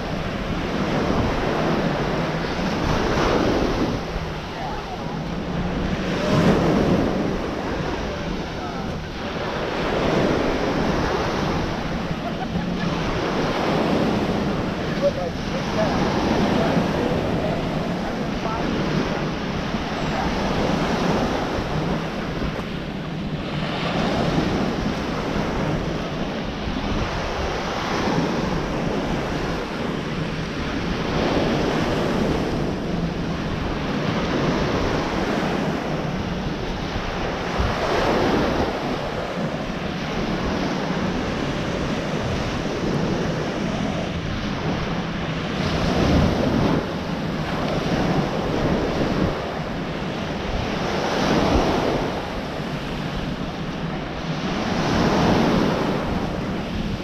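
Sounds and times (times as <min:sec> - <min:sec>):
waves breaking on beach: 0:00.0 - 0:57.0
wind buffeting microphone: 0:00.0 - 0:57.0.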